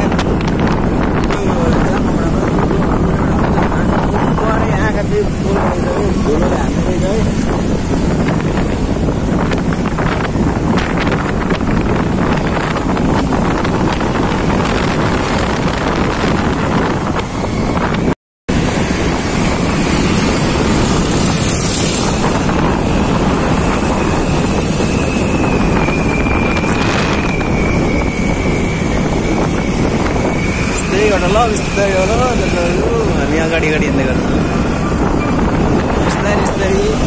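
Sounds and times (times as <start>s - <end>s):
scooter engine and road noise: 0.0s - 37.0s
wind buffeting microphone: 0.0s - 37.0s.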